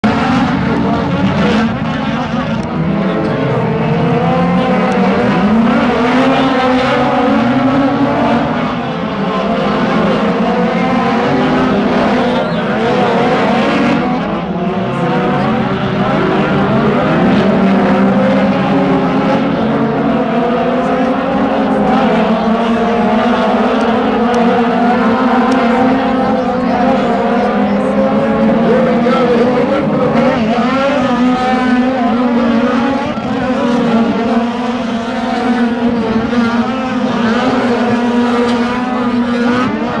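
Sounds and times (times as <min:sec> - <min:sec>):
truck engine revving: 0:00.0 - 0:40.0.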